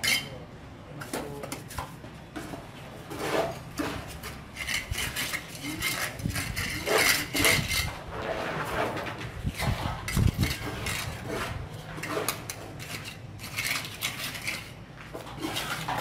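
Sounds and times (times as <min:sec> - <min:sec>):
trowel scraping wet mortar: 0:03.1 - 0:16.0.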